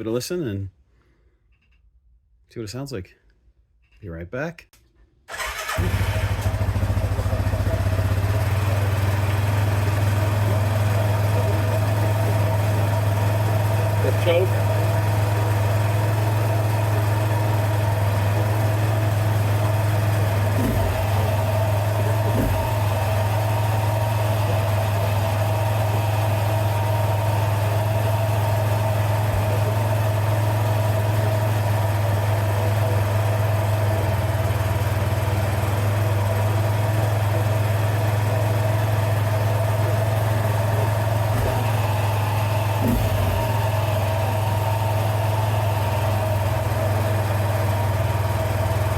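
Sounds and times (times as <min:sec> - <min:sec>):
engine idling: 0:05.3 - 0:48.9.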